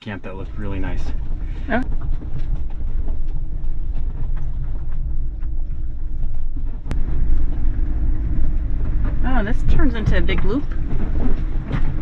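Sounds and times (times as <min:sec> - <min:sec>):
knocks and rattles: 0:00.0 - 0:12.0
van engine and tyres rumbling: 0:00.0 - 0:12.0.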